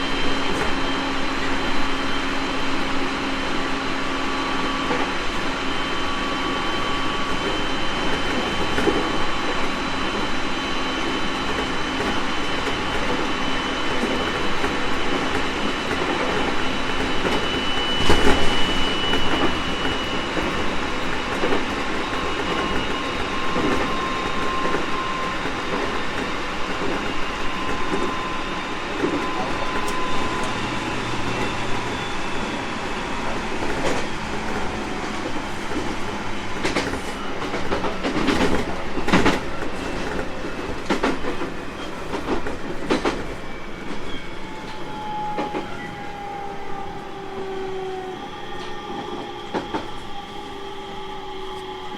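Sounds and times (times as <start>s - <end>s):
traction motor whine: 0.0s - 40.9s, 43.2s - 51.9s
rail joint clacks: 0.0s - 51.9s.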